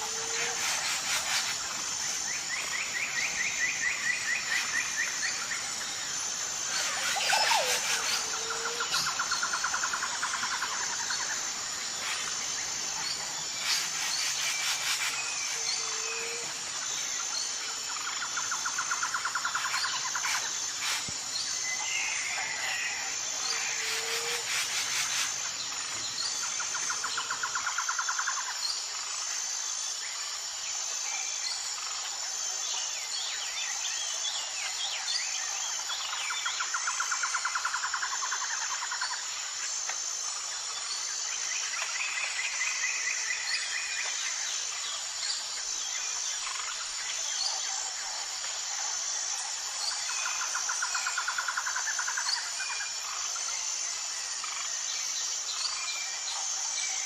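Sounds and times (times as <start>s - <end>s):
high insect trill: 0.0s - 57.0s.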